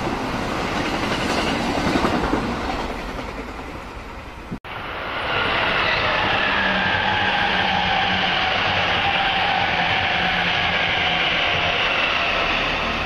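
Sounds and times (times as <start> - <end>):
train passing with whine: 0.0 - 13.0.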